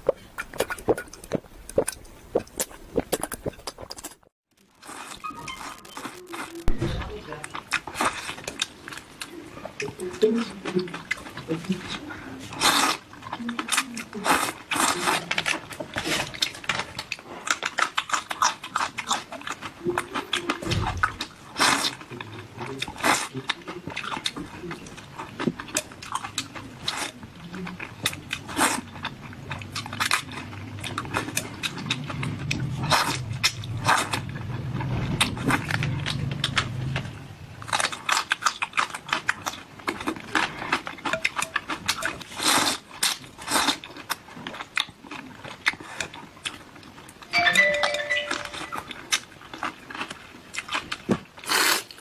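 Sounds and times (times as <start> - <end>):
person chewing and mouth smacking: 0.0 - 6.8, 7.4 - 37.0, 37.6 - 52.0.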